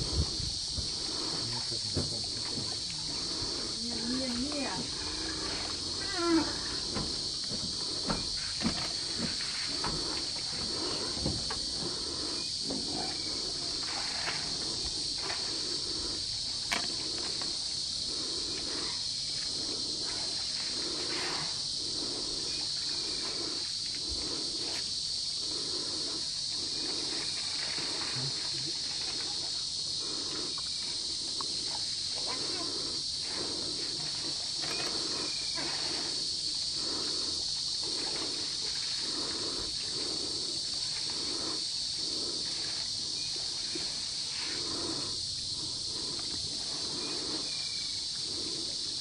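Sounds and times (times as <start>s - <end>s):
high-pitched insect drone: 0.0s - 49.0s.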